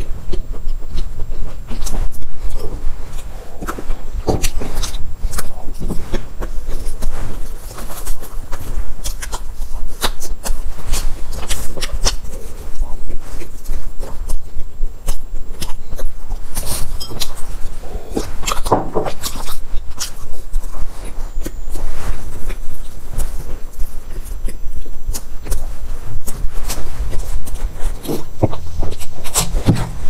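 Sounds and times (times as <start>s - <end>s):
chewing pastry: 0.0s - 30.0s.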